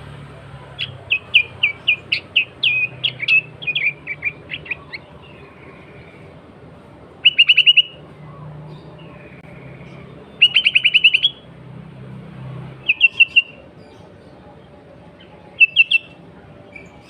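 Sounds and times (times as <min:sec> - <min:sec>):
bird chirping: 0:00.5 - 0:06.4, 0:07.1 - 0:11.6, 0:12.7 - 0:17.0.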